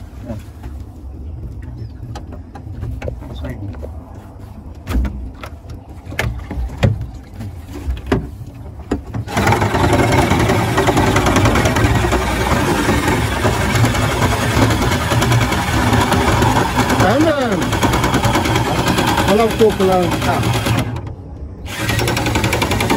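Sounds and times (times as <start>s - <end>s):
outboard motor running: 0.0s - 22.9s.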